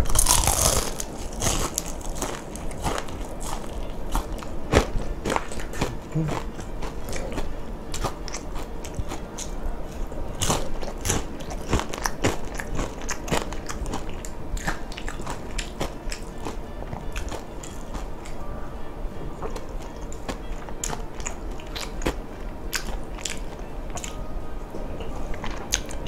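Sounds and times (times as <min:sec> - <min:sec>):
crunchy chewing: 0:00.0 - 0:18.7, 0:19.3 - 0:24.3, 0:25.0 - 0:26.0.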